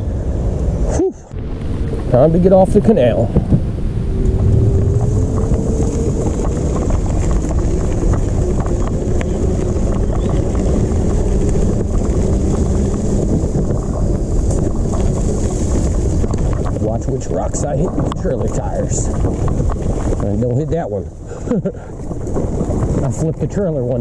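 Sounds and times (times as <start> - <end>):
rumble of tyres on trail: 0.0 - 24.0
wind on microphone: 0.0 - 24.0
small ticks from path: 4.2 - 24.0.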